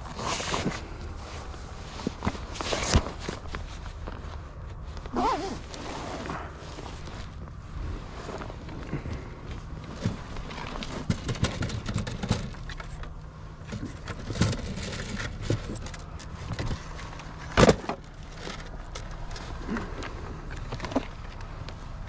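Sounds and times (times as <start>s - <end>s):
gear clicks knocks and rustles: 0.0s - 22.0s.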